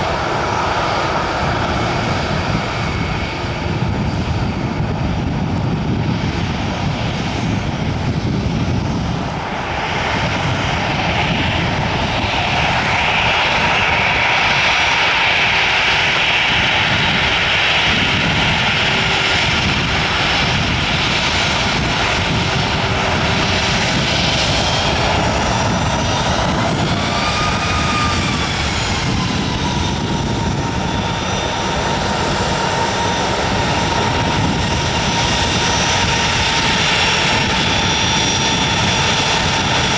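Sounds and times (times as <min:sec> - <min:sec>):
jet engines running at low power: 0:00.0 - 0:39.9.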